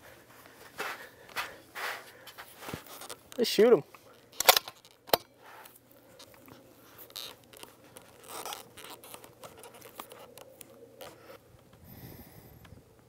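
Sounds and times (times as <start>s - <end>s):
handling taps and rustles: 0.4s - 11.8s.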